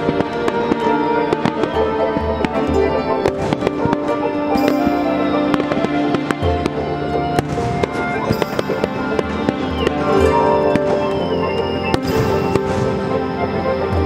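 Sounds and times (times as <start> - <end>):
fireworks bangs and crackles: 0.0 - 14.0
music with long held notes: 0.0 - 14.0.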